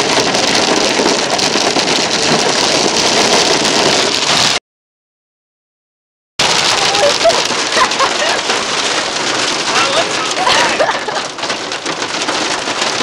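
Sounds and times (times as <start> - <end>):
hail and rain on car roof: 0.0 - 4.6, 6.4 - 13.0.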